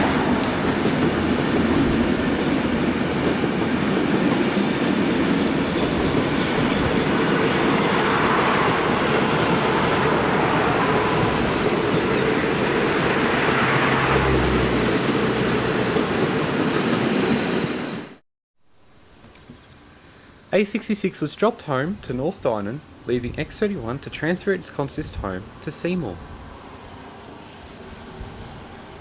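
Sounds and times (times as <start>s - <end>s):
train rumbling past: 0.0s - 18.2s, 22.1s - 29.0s.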